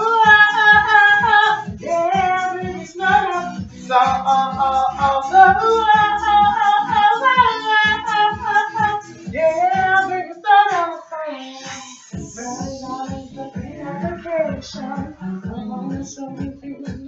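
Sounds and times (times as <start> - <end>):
backing track with steady beat: 0.0 - 17.0
person singing: 0.0 - 17.0.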